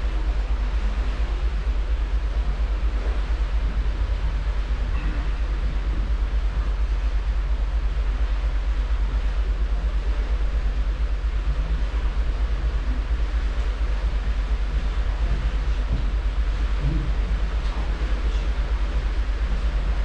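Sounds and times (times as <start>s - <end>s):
ship engine pulsing rumble: 0.0s - 20.0s.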